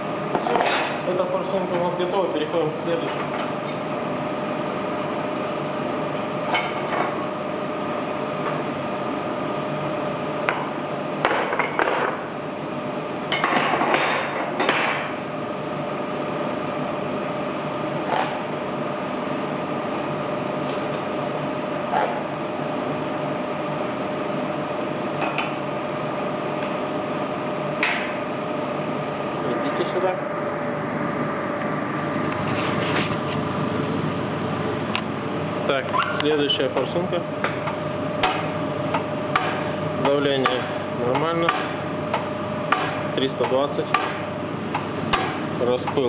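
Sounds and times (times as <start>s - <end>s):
workshop hum: 0.0s - 46.0s.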